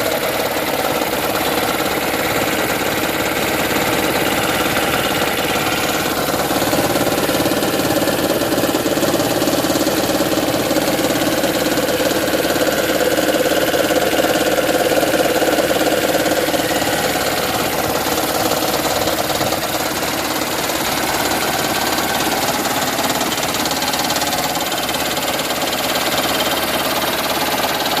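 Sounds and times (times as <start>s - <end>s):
car engine knocking: 0.0s - 28.0s.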